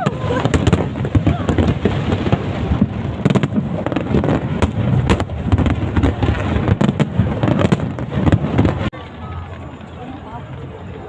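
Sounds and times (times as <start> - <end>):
fireworks bangs and crackling pops: 0.0 - 11.0.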